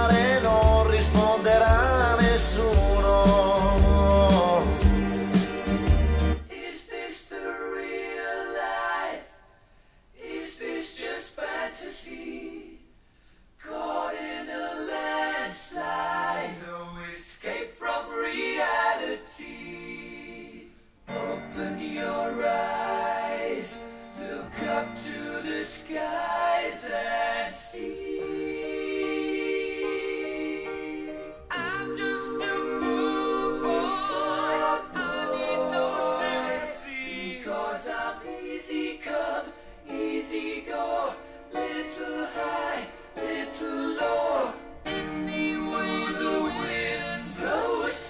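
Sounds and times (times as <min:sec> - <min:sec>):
choir singing through loudspeakers: 0:00.0 - 0:05.6, 0:06.4 - 0:09.4, 0:10.2 - 0:12.8, 0:13.6 - 0:48.0.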